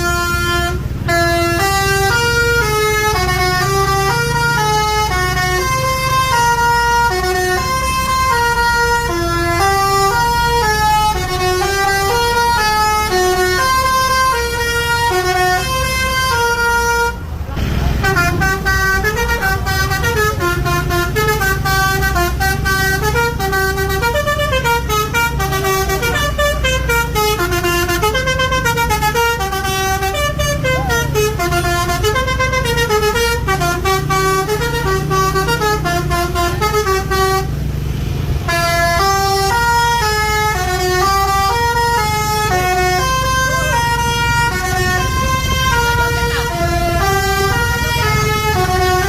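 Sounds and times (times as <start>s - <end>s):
bus horn playing a tune: 0.0s - 49.0s.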